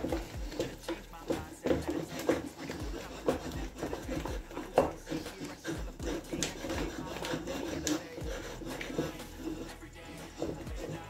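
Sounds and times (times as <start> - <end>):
wooden spoon stirring dough: 0.0 - 11.0.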